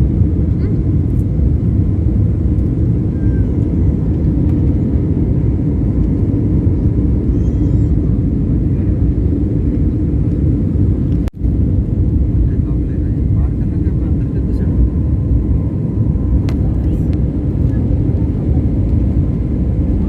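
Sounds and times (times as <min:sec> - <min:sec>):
jet cabin engine rumble: 0:00.0 - 0:20.0.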